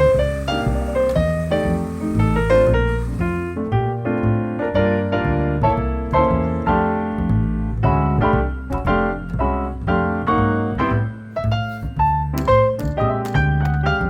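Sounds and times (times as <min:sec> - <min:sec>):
piano music with bass line: 0:00.0 - 0:14.0.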